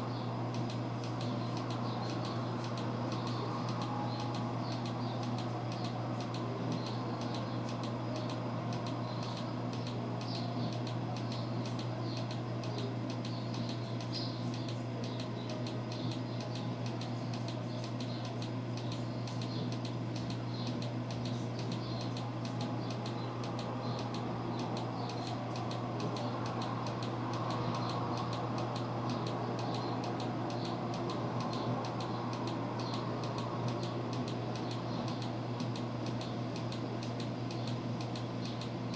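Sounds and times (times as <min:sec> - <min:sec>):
faint regular ticking: 0:00.0 - 0:38.9
low electrical hum: 0:00.0 - 0:38.9.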